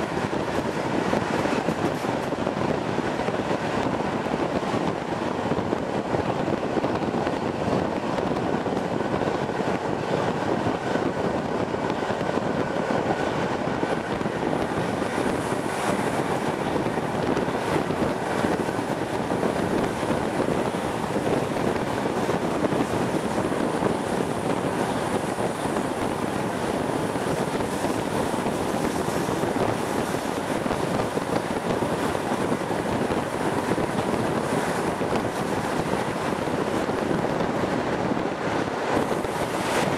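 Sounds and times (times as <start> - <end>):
train rolling noise: 0.0 - 39.9
wind rushing at window: 0.0 - 39.9.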